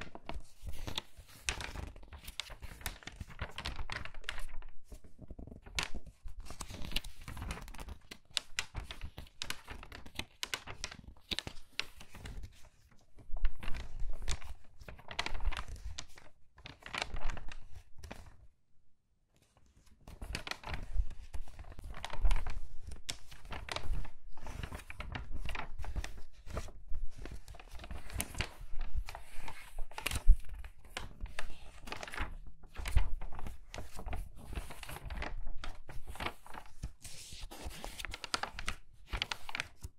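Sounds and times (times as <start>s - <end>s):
magazine pages turning: 0.0s - 18.3s, 19.5s - 39.9s.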